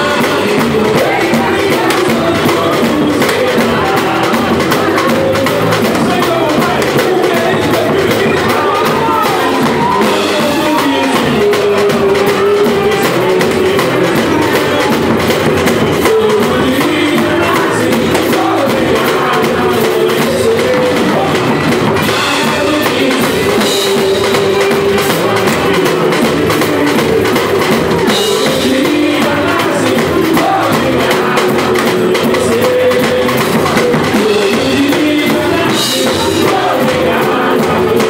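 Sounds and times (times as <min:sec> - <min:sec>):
person singing: 0:00.0 - 0:38.0
samba band playing: 0:00.0 - 0:38.0.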